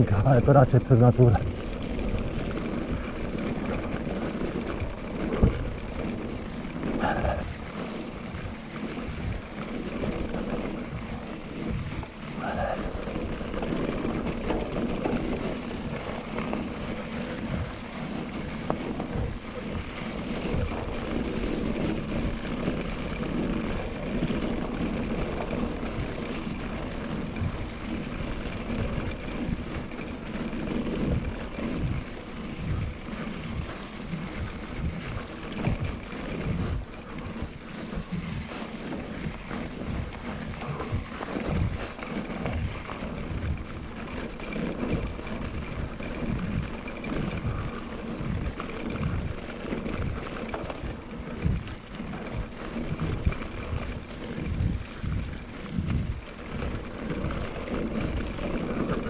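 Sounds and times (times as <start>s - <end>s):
bike knocks and rattles: 0.0s - 59.0s
bike tyres on leaves and dirt: 0.0s - 59.0s
wind rushing over microphone: 0.0s - 59.0s.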